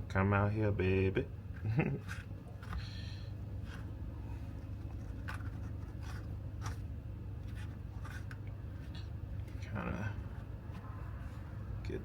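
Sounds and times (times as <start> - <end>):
low hum: 1.2 - 12.0.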